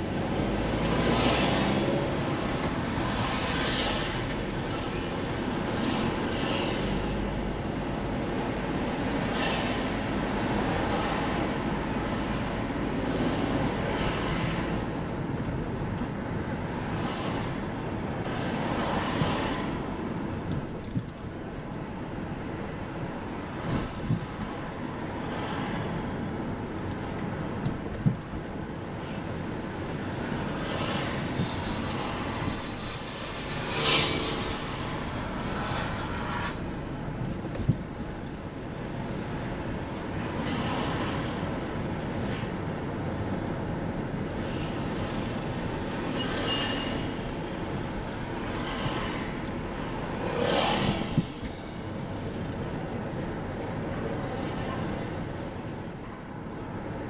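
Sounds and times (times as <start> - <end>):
cars passing: 0.0 - 57.0
road traffic rumble: 0.0 - 57.0.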